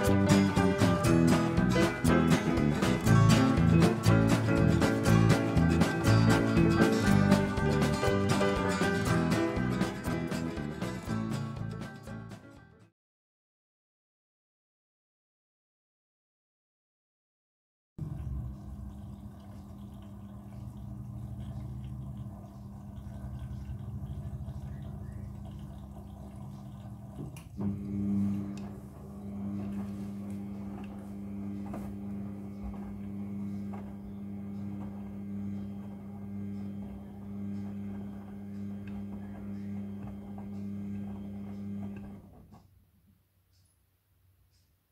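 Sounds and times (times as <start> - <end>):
washing machine motor hum: 0.0 - 11.8, 18.0 - 42.8.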